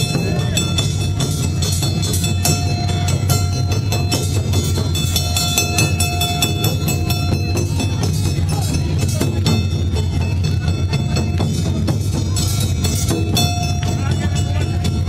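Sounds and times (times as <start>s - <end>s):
rapid sharp drum strikes: 0.0s - 15.0s
taiko drums beaten with sticks: 0.0s - 15.0s.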